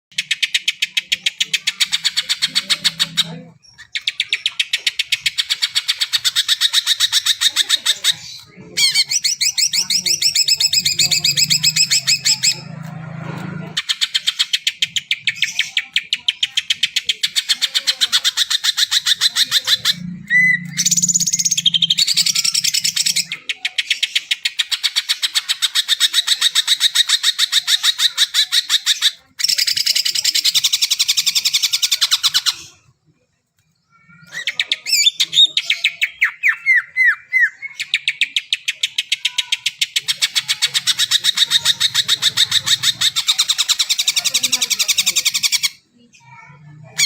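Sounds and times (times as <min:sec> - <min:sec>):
bird rapid chattering song: 0:00.1 - 0:12.9, 0:13.6 - 0:32.9, 0:33.7 - 0:47.0.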